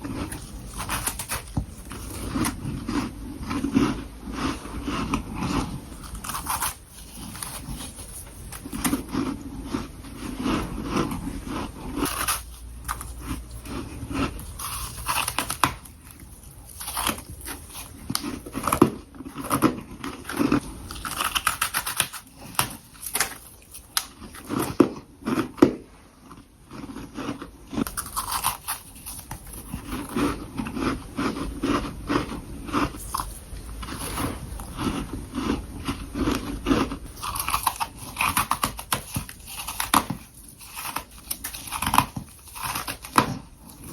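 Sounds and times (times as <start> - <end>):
frost being crunched and chewed: 0.0 - 43.9.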